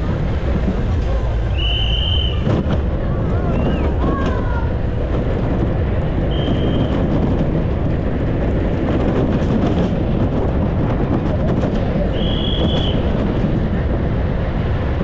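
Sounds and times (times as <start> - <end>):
cart rattling over rough road: 0.0 - 15.0
cart wheels rumbling on asphalt: 0.0 - 15.0.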